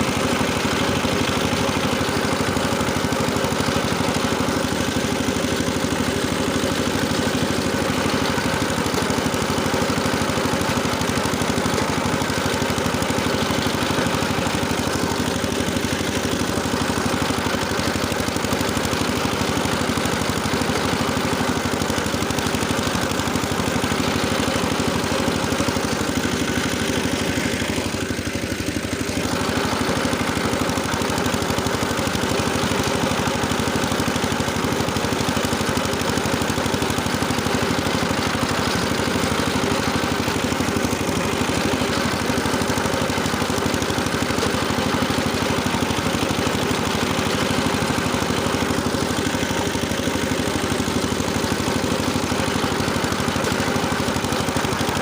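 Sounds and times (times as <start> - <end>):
rotary tiller engine running: 0.0 - 55.0.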